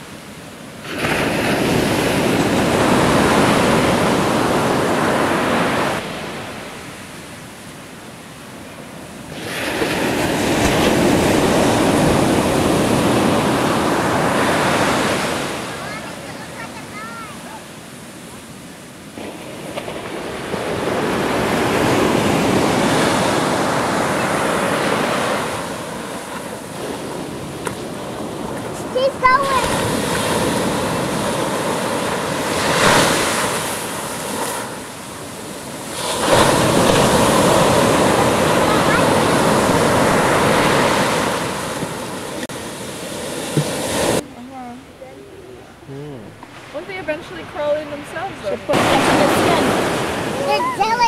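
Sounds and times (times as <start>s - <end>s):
wave breaking on a beach: 0.0s - 45.0s, 45.7s - 51.0s.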